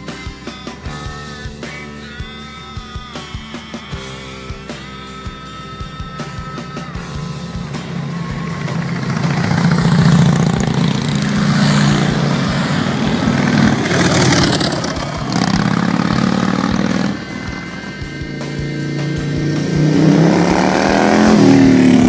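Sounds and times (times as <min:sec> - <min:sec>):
motorcycle engines running: 0:00.0 - 0:22.0
music: 0:00.0 - 0:22.0.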